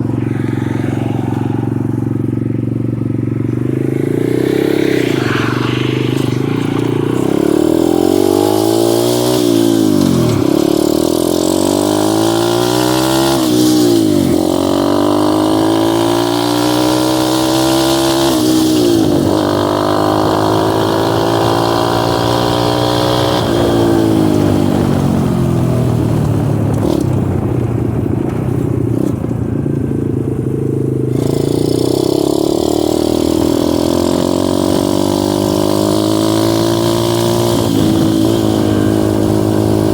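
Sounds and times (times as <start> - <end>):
dirt bike engine revving: 0.0 - 25.8, 31.1 - 39.9.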